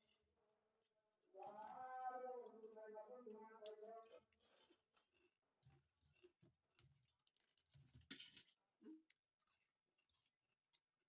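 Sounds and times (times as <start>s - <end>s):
soft chewing: 0.0s - 11.0s.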